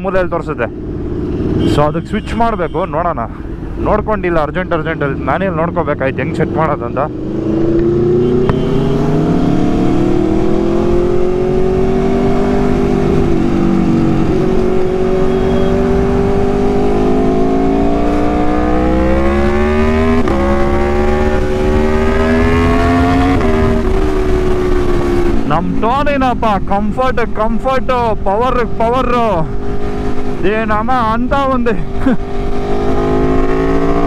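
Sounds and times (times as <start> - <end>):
motorcycle engine accelerating: 6.4 - 34.0.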